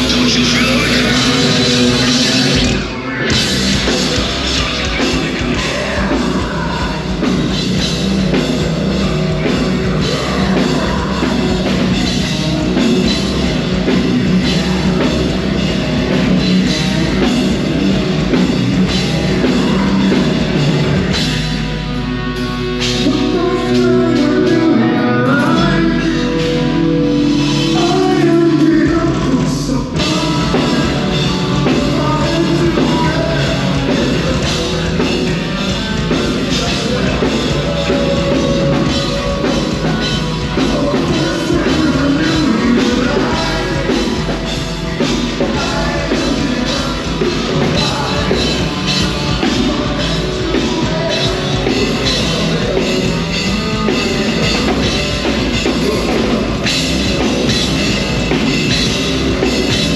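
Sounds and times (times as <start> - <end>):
bass guitar: 0.0 - 59.9
distorted guitars: 0.0 - 59.9
drum kit: 0.0 - 59.9
person singing: 0.0 - 59.9.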